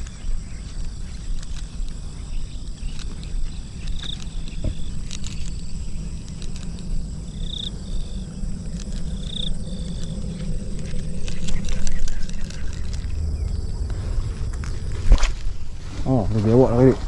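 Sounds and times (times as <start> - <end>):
insects buzzing: 0.0 - 17.0
low microphone rumble: 0.0 - 17.0.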